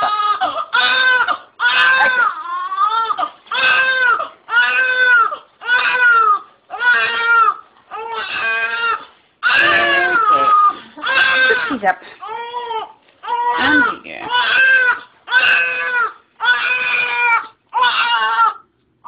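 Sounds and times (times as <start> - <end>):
newborn baby crying: 0.0 - 18.7.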